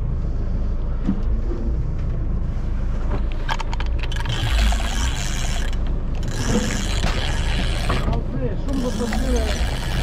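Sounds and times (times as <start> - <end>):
boat engine low rumble: 0.0 - 10.0.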